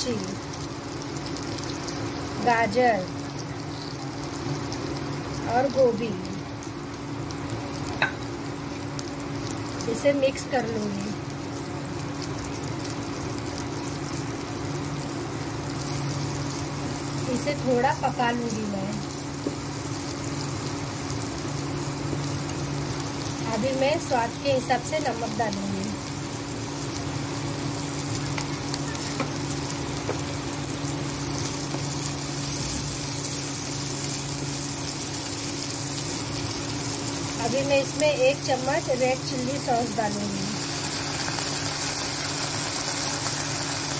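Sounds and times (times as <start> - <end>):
vegetables sizzling in hot oil: 0.0 - 43.9.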